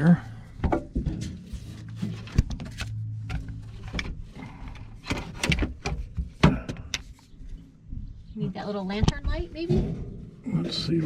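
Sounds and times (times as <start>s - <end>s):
objects knocking and rustling: 0.5s - 10.4s.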